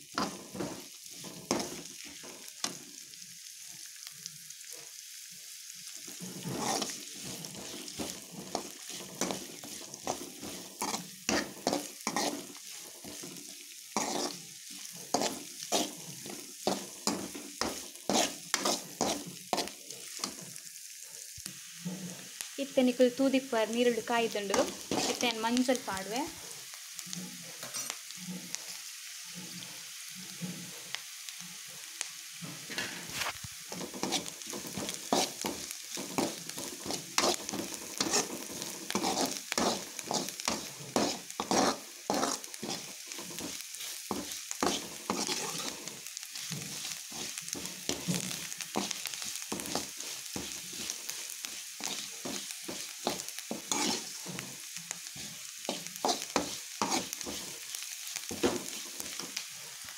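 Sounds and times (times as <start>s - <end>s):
vegetables sizzling in hot oil: 0.0s - 59.9s
metal spatula scraping a pan: 0.1s - 2.9s, 6.0s - 20.6s, 23.9s - 26.4s, 27.0s - 30.8s, 32.4s - 59.4s.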